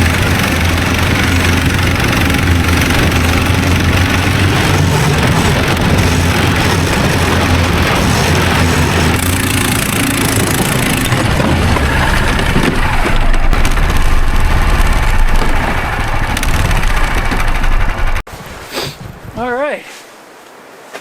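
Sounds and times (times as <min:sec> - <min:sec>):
small engine running: 0:00.0 - 0:18.2
wind buffeting microphone: 0:00.0 - 0:19.5.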